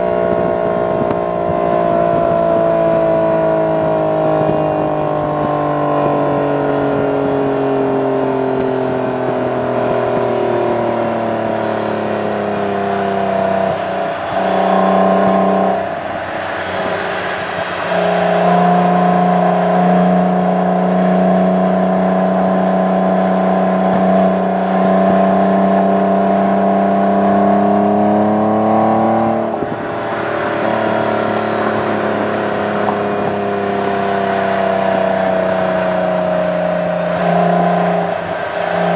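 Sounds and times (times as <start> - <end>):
car exhaust droning: 0.0 - 38.9.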